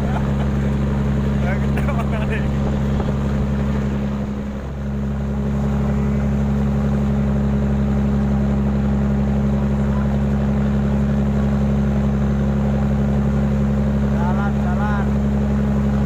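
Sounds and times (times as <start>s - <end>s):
boat diesel engine droning: 0.0s - 16.0s.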